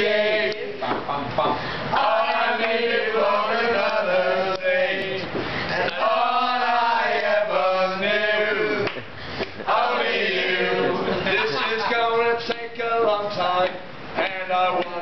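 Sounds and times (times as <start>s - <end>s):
men singing unaccompanied: 0.0s - 1.1s, 1.9s - 8.9s, 9.6s - 15.0s.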